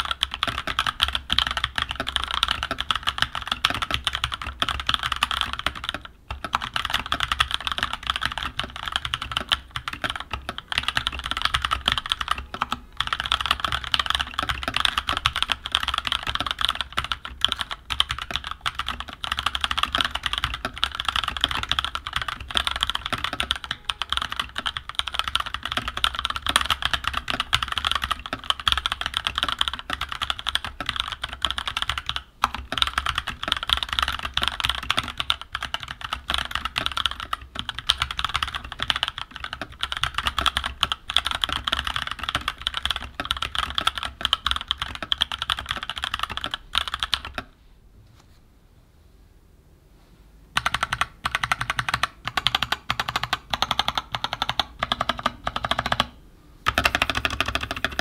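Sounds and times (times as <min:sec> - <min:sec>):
mechanical keyboard typing: 0:00.0 - 0:47.5, 0:50.6 - 0:58.0.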